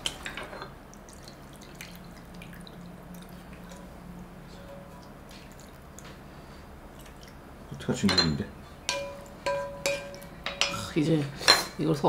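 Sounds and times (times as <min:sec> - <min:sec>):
low steady hum: 0:00.0 - 0:11.8
broth dripping into bowl: 0:00.8 - 0:10.8.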